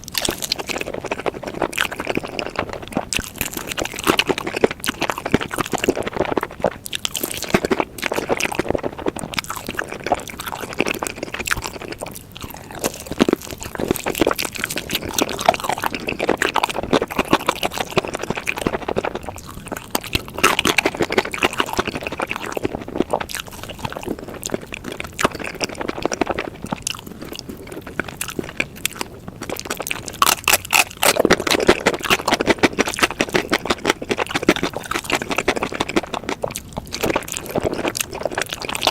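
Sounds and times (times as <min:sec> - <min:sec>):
food crunching: 0:00.0 - 0:38.9
person chewing sticky food: 0:00.0 - 0:38.9.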